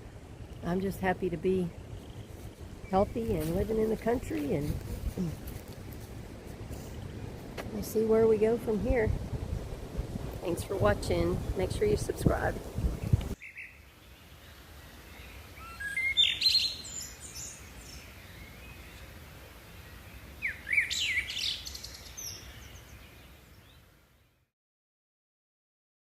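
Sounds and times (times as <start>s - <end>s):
faint breeze: 0.0s - 24.5s
songbirds chirping: 0.0s - 24.5s.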